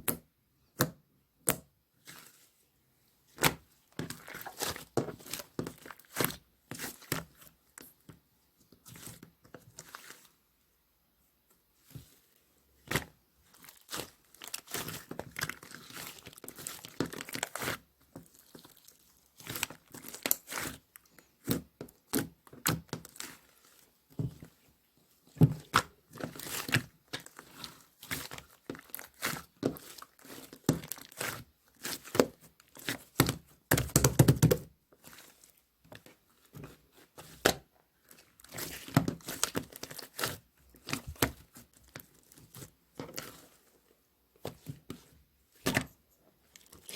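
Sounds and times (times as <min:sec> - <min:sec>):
slime crackling and squishing: 0:03.3 - 0:08.0, 0:08.8 - 0:10.4, 0:12.8 - 0:43.8, 0:44.4 - 0:46.9.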